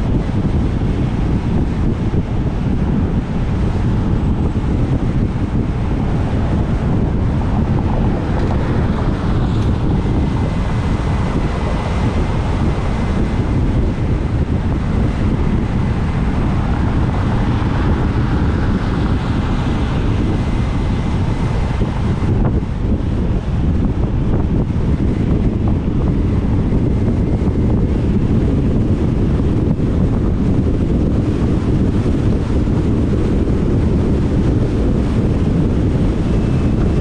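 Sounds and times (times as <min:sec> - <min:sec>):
vehicle and road noise: 0:00.0 - 0:37.0
wind buffeting microphone: 0:00.0 - 0:37.0.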